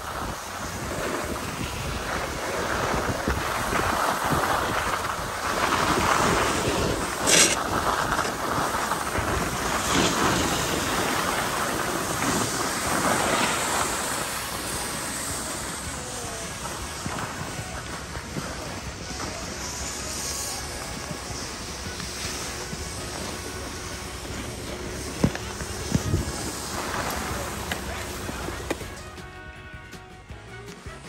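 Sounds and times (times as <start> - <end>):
wind on microphone: 0.0 - 28.9
skis scraping over snow: 0.0 - 29.6.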